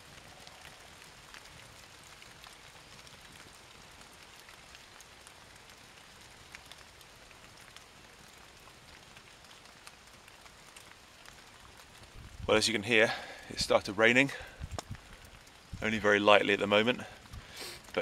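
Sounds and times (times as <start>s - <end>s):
light rain hissing: 0.0s - 18.0s
raindrops ticking: 0.0s - 18.0s.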